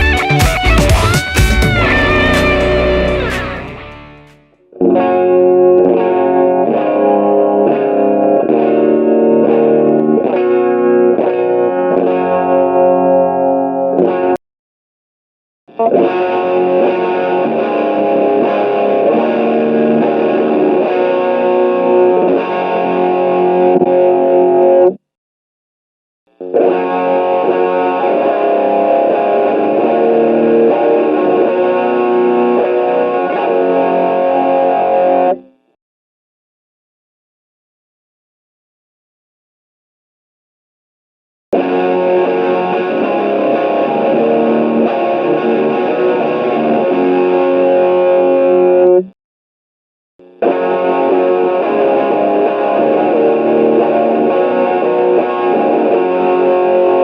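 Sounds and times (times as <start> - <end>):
overdriven electric guitar: 0.0 - 14.4, 15.7 - 25.0, 26.3 - 35.8, 41.6 - 49.2, 50.2 - 57.0.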